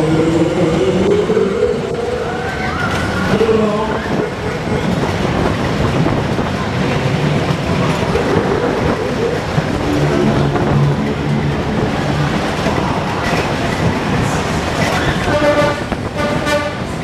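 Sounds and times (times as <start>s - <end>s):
ride cars rumbling and rattling: 0.0s - 17.0s.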